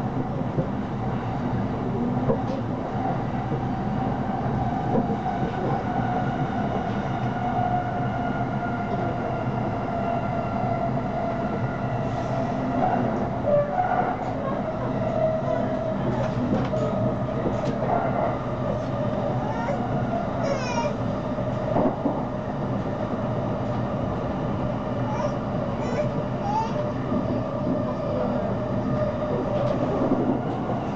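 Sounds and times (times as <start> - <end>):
train carriage rumble: 0.0 - 30.9.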